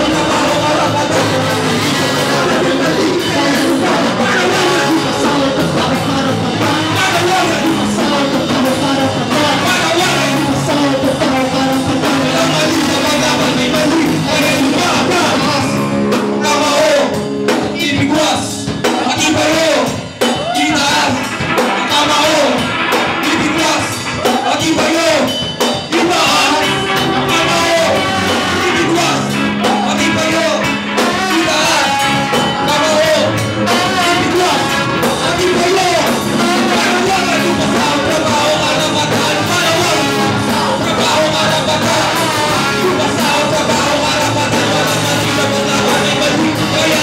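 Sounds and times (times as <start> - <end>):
live rock band playing: 0.0 - 47.0
vocalists singing and shouting: 0.0 - 47.0.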